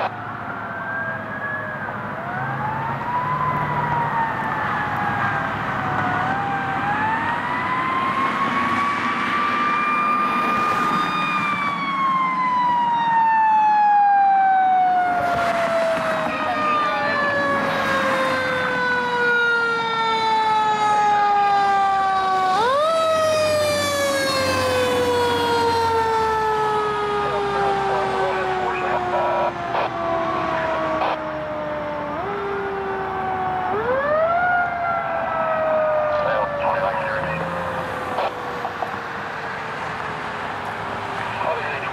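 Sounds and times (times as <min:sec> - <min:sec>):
fire engine siren wailing: 0:00.0 - 0:41.9.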